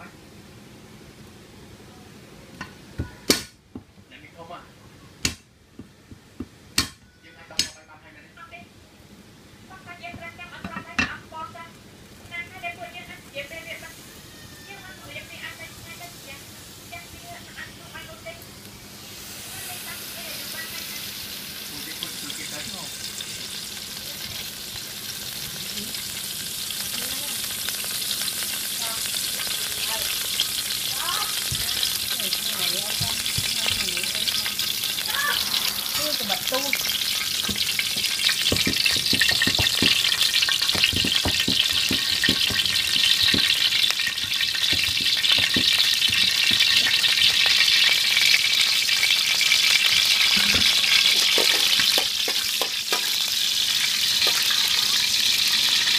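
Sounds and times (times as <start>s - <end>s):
hot oil sizzling in wok: 9.3s - 55.9s.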